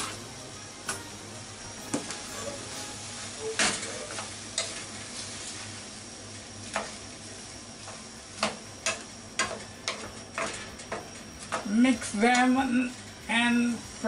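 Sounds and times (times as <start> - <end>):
noodles and onion sizzling in pan: 0.0 - 14.0.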